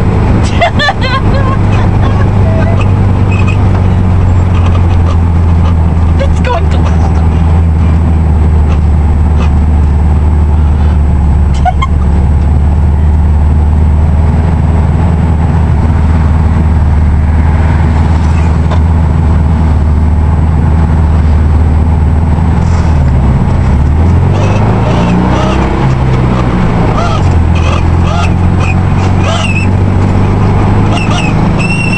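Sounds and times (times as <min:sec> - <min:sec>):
car engine and road drone: 0:00.0 - 0:31.9.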